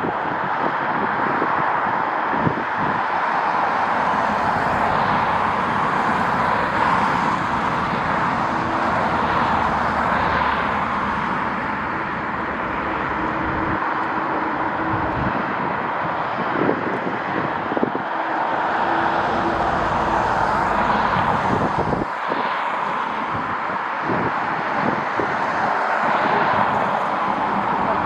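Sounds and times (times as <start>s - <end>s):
gusty wind: 0.0s - 28.0s
jet engines passing: 2.5s - 28.0s.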